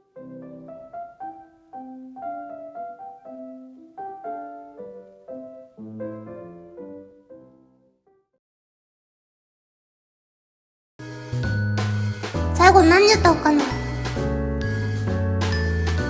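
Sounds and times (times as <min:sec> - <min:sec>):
piano melody over chords: 0:00.0 - 0:08.2, 0:11.0 - 0:16.0.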